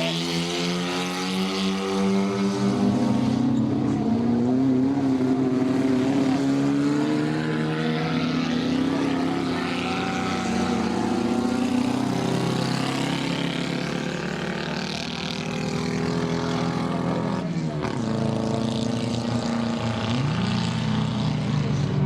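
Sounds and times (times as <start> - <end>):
racing car engines running hard: 0.0 - 22.0.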